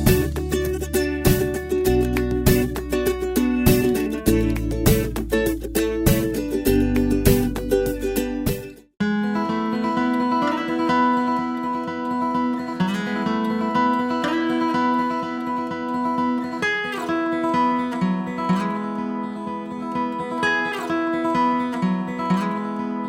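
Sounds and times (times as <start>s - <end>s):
acoustic guitar music: 0.0s - 23.0s.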